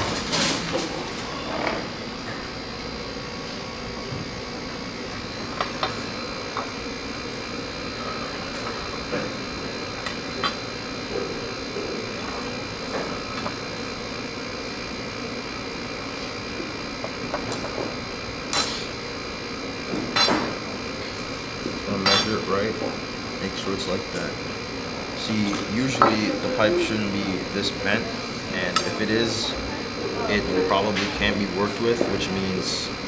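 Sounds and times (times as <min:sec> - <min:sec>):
room hum: 0:00.0 - 0:33.0.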